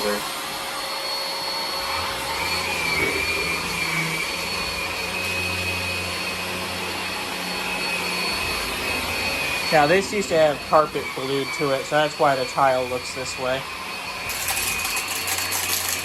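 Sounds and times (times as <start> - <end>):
vacuum cleaner motor whining: 0.0 - 16.0.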